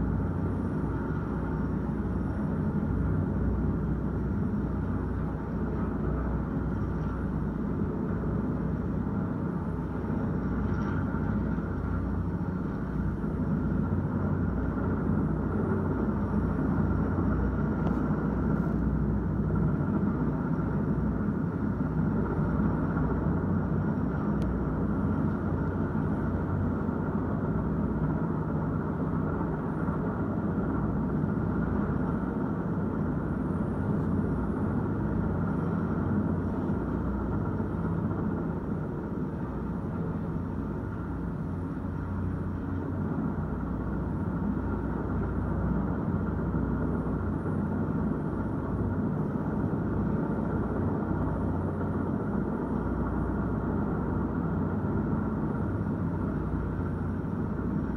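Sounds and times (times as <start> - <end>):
muffled helicopter rumble: 0.0 - 57.9.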